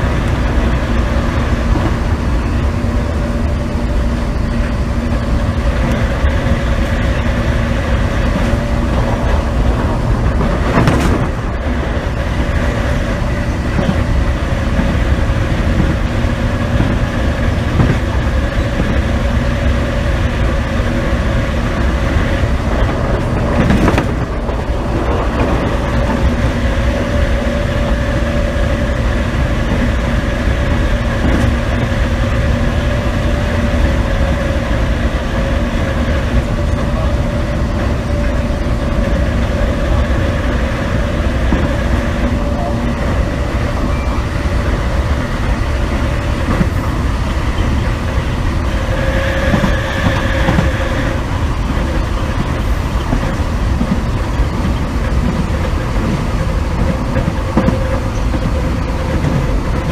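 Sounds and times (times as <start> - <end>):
traction motor hum: 0.0 - 59.9
train wheels rumbling on track: 0.0 - 59.9.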